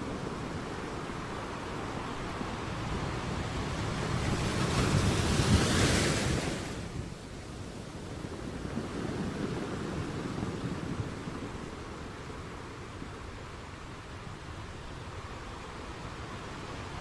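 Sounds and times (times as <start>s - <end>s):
sea waves breaking on shore: 0.0s - 17.0s.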